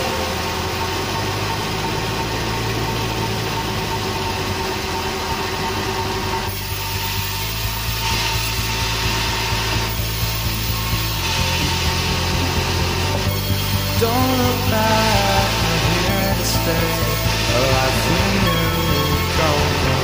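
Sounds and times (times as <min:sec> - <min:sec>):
band sawmill machine hum: 0:00.0 - 0:20.0.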